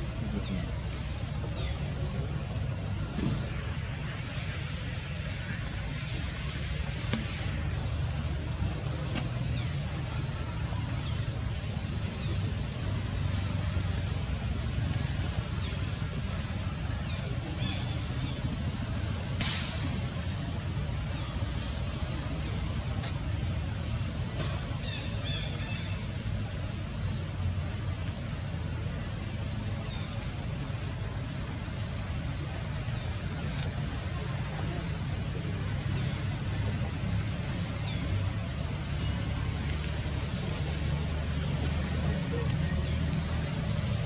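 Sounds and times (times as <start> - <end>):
steady hiss: 0.0 - 44.0
steady low rumble: 0.0 - 44.0.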